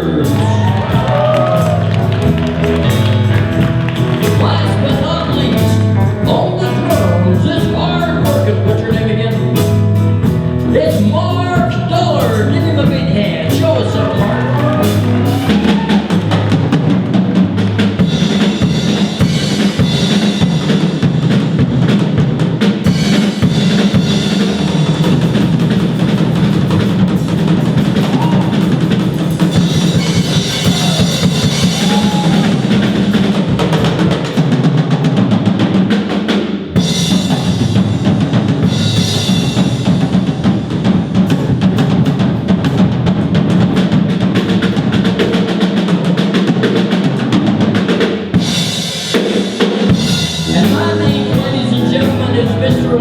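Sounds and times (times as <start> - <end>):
bass and guitar playing: 0.0 - 34.6, 36.7 - 45.4, 49.9 - 53.0
drum kit solo: 0.0 - 53.0.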